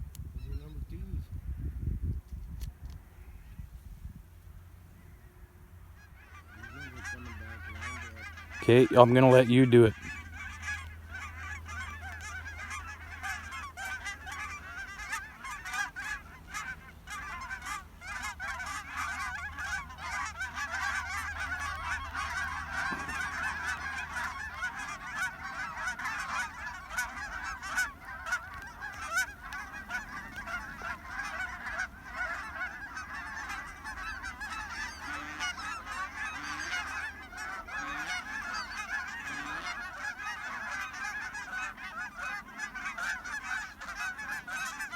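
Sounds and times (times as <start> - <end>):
flock of geese honking: 4.9 - 44.9.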